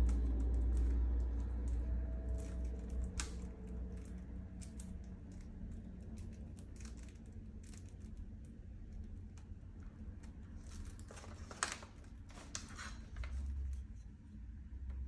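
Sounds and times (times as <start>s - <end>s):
packing paper crinkling: 0.0s - 13.9s.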